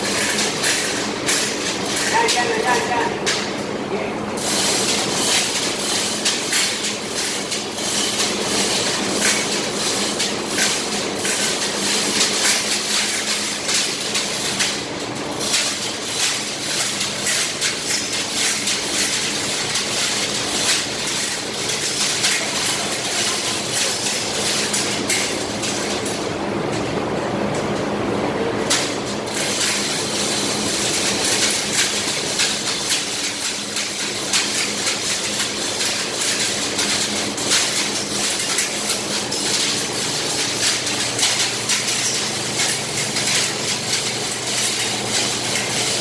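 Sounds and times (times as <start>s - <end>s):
machinery hum: 0.0s - 46.0s.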